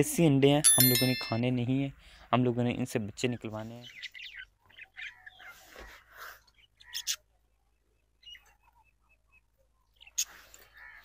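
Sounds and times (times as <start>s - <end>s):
faint bird chirping: 0.8s - 11.0s.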